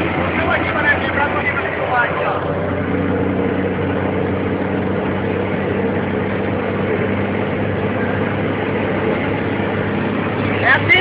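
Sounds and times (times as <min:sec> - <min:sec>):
road and cab noise: 0:00.0 - 0:11.0
truck diesel engine humming: 0:00.0 - 0:11.0.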